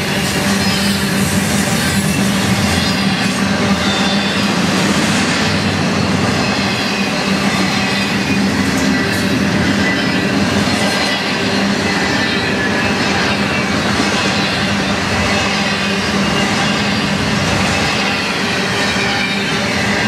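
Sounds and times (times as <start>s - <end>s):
faint high wheel squeal: 0.0s - 4.6s, 5.4s - 20.0s
train wheels rolling on rails: 0.0s - 20.0s.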